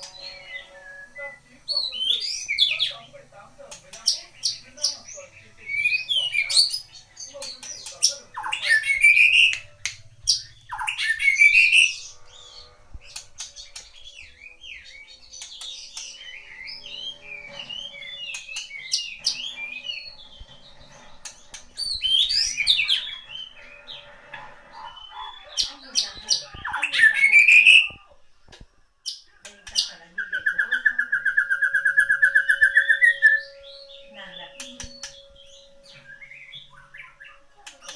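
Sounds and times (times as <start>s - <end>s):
bird squawking and chirping: 0.0s - 28.0s, 29.1s - 37.9s.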